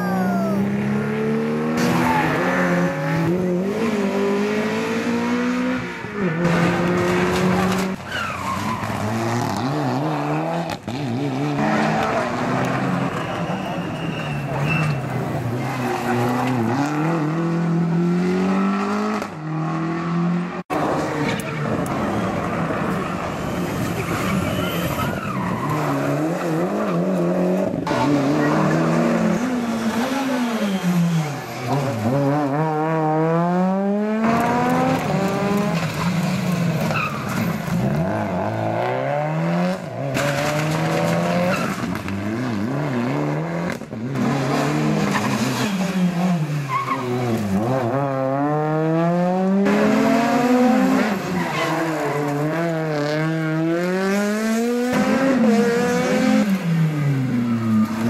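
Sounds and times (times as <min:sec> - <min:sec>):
rally car engines accelerating: 0:00.6 - 0:58.0.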